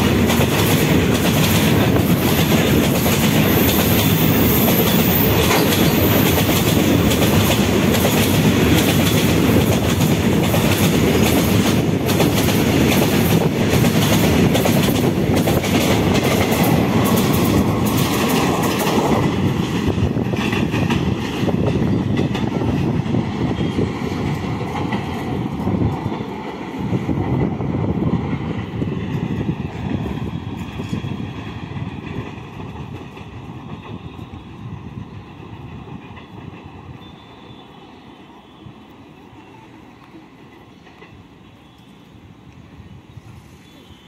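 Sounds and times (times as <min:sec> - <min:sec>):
freight train passing: 0:00.0 - 0:44.0.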